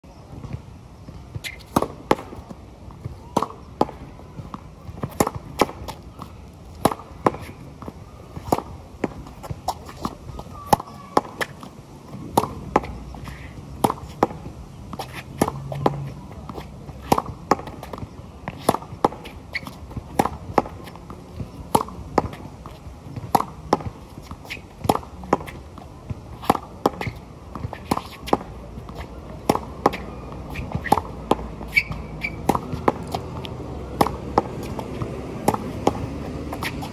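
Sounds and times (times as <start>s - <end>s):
racket striking tennis ball: 1.3s - 36.9s
ball bouncing on court: 6.8s - 36.9s.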